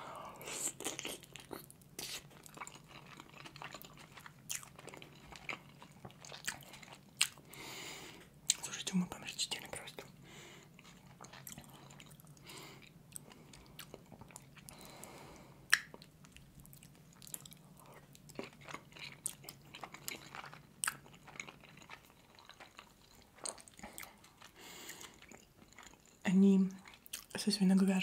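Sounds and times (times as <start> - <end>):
wet chewing: 0.6 - 7.6, 10.8 - 27.4.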